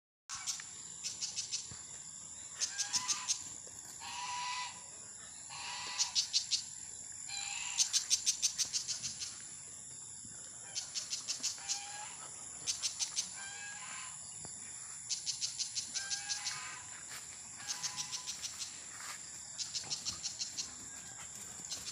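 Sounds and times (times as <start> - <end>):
insects droning: 0.3 - 21.9
rapid insect chirps: 0.3 - 21.9.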